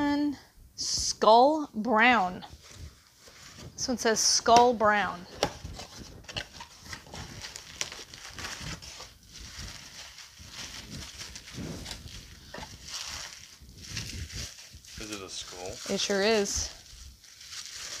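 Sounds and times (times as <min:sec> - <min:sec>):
bubble wrap crinkling: 0:02.4 - 0:18.0.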